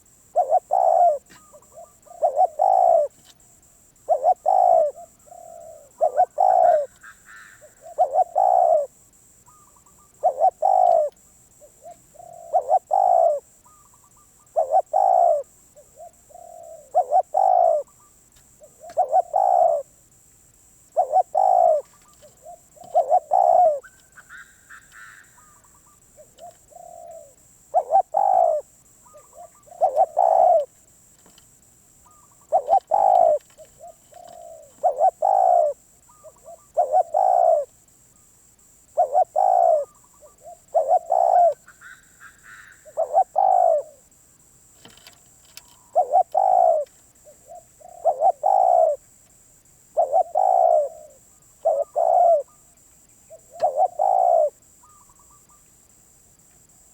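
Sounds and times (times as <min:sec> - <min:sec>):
dove cooing: 0:00.0 - 0:03.3, 0:03.9 - 0:20.0, 0:20.9 - 0:31.4, 0:32.0 - 0:37.8, 0:38.8 - 0:44.1, 0:44.8 - 0:49.0, 0:49.9 - 0:52.6, 0:53.3 - 0:55.6
faint high bird chirps: 0:00.0 - 0:20.0, 0:20.9 - 0:31.4, 0:32.0 - 0:38.3, 0:38.9 - 0:44.0, 0:44.9 - 0:49.0, 0:49.9 - 0:55.8.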